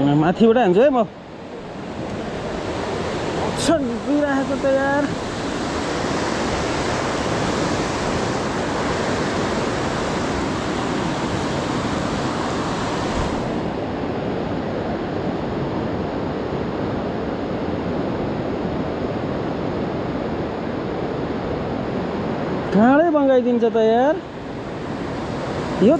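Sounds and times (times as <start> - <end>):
river rushing past boulders: 0.0 - 25.9.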